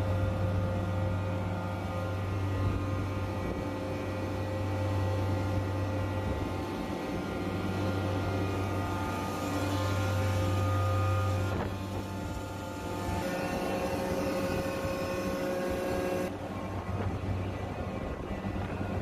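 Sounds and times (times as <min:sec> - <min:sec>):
chiller low hum: 0:00.0 - 0:19.0.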